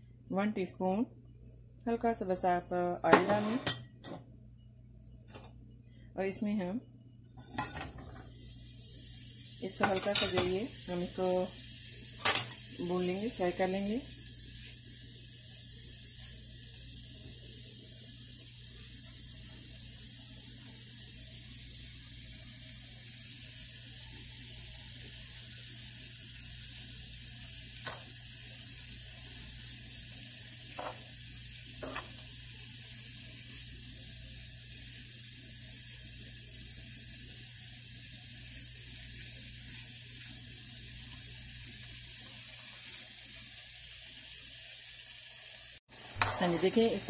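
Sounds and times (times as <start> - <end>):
cheese sizzling in oil: 7.4 - 47.0.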